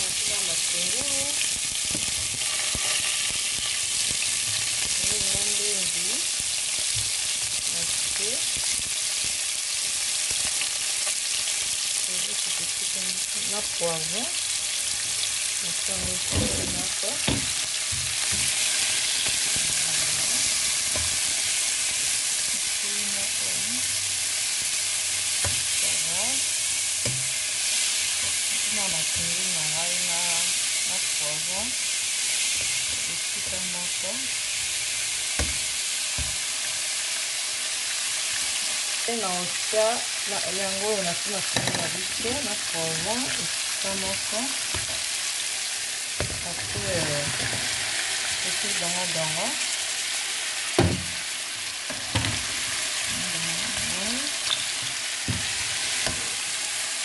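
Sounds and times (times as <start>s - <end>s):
onion sizzling in oil: 0.0s - 57.0s.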